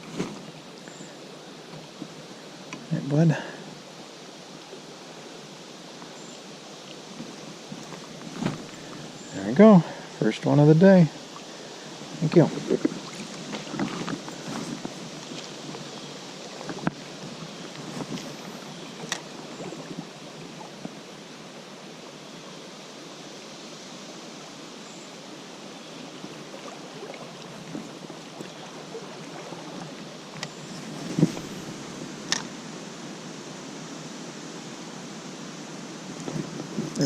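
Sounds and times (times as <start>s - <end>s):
river flowing: 0.0s - 37.0s.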